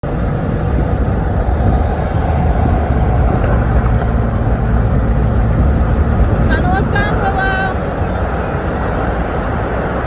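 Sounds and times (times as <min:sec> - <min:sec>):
vehicle road noise rumble: 0:00.0 - 0:10.0.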